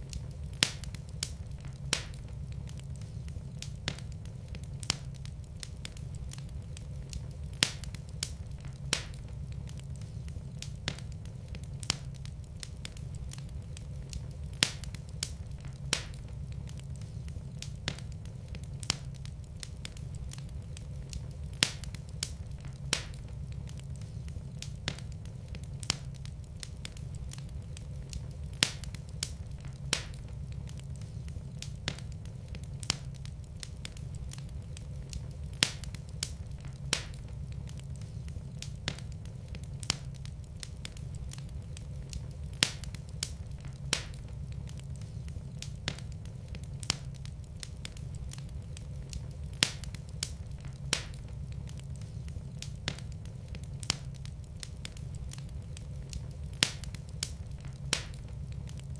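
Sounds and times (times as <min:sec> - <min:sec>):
fire low rumble: 0:00.0 - 0:58.9
wood fire crackling and popping: 0:00.0 - 0:58.9.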